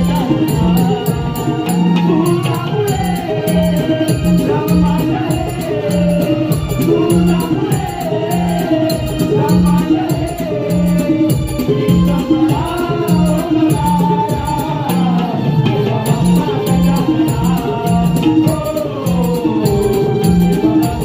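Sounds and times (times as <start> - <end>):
person singing: 0.0 - 21.0
rhythmic percussion strokes: 0.0 - 21.0
steady drum beat: 0.0 - 21.0.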